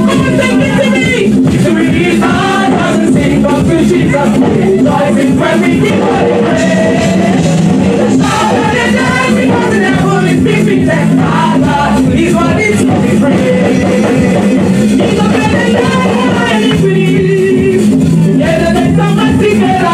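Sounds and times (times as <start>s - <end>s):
gospel choir singing: 0.0s - 19.9s
musical accompaniment: 0.0s - 19.9s.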